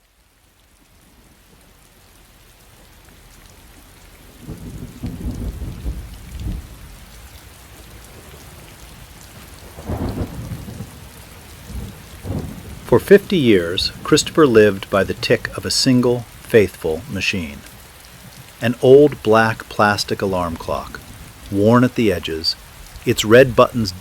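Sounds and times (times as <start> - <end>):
steady rain: 0.0 - 24.0
thunder rumbling: 4.2 - 24.0.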